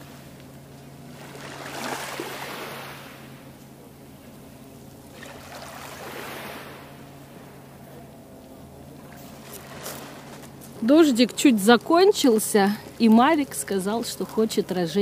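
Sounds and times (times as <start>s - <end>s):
waves washing on stony beach: 0.0s - 3.6s, 4.3s - 7.7s, 9.1s - 15.0s
steady low hum: 0.0s - 15.0s.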